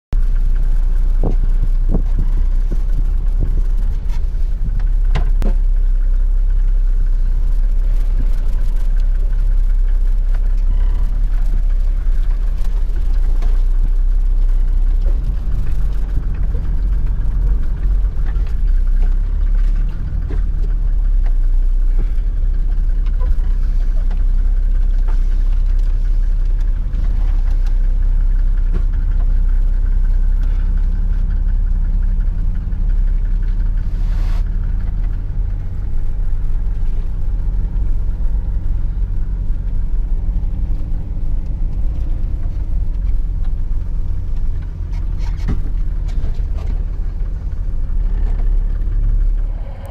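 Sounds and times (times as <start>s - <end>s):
diesel engine low rumble: 0.0s - 49.9s.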